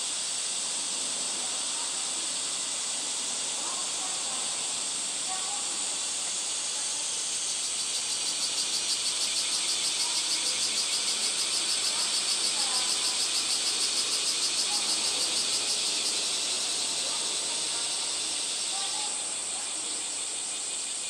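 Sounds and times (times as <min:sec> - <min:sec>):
background insect hiss: 0:00.0 - 0:21.0
cicadas pulsing buzz: 0:00.0 - 0:21.0.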